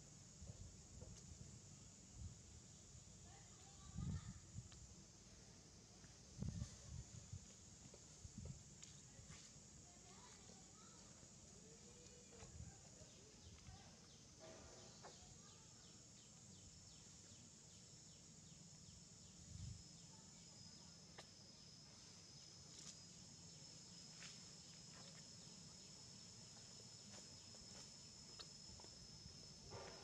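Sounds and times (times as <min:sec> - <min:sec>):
insects buzzing and chirping: 0:00.0 - 0:30.0.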